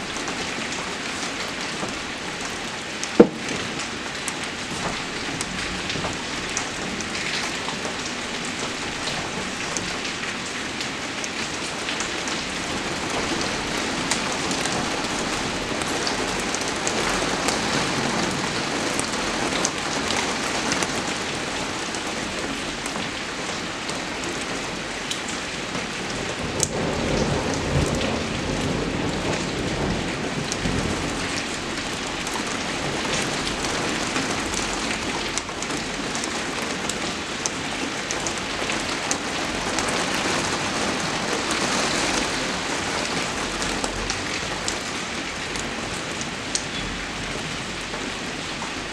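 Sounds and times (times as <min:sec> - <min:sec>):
rain falling on a surface: 0:00.0 - 0:48.9.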